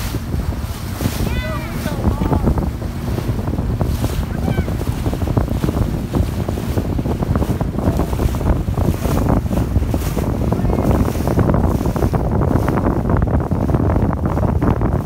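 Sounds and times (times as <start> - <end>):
water rushing past hull: 0.0 - 15.0
wind buffeting microphone: 0.0 - 15.0.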